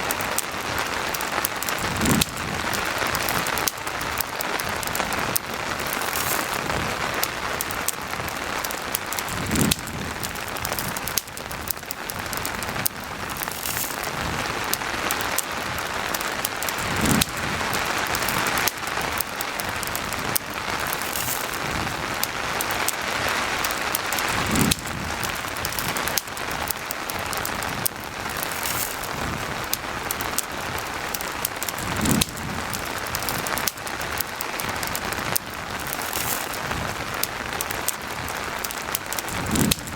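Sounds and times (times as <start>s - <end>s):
campfire crackling: 0.0s - 39.9s
steady rain hiss: 0.0s - 39.9s.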